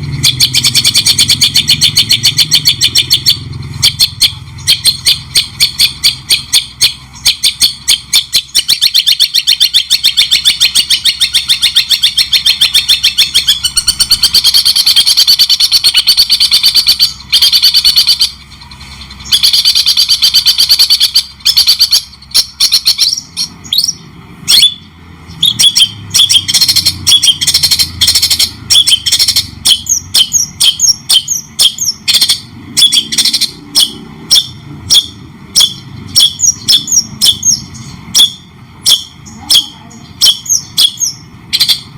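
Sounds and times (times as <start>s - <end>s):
songbird chattering and whistling: 0.0s - 41.9s.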